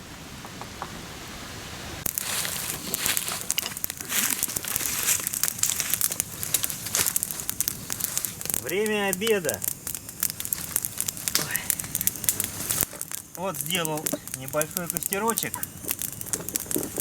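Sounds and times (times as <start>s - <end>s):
faint hiss: 0.0s - 17.0s
campfire crackling and popping: 2.0s - 17.0s.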